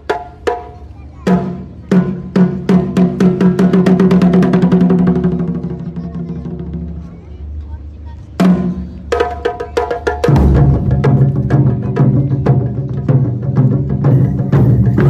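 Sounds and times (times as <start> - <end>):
taiko drum strokes and roll: 0.0 - 7.6, 8.3 - 15.0.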